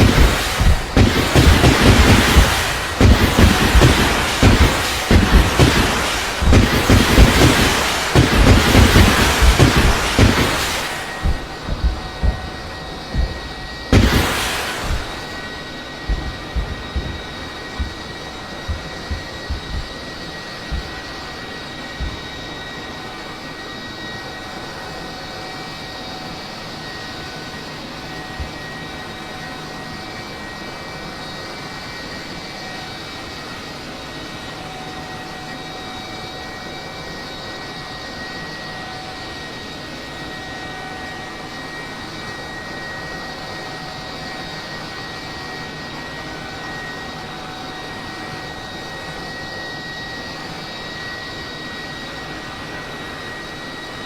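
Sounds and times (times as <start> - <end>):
aircraft engine high whine: 0.0 - 54.0.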